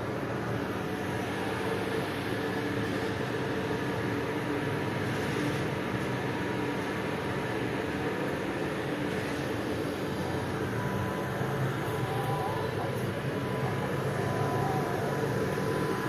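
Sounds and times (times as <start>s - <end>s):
faint steady tones: 0.0s - 16.0s
steady mechanical hum: 0.0s - 16.0s.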